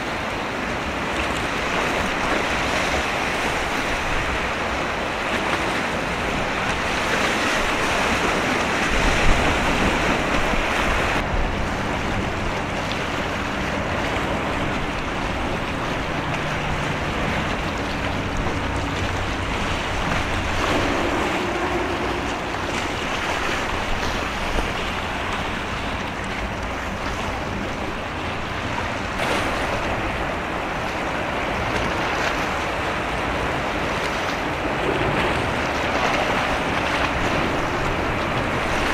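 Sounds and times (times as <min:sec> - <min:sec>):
rushing sea water: 0:00.0 - 0:38.9
ship engine drone: 0:00.0 - 0:38.9
wind buffeting microphone: 0:00.0 - 0:38.9.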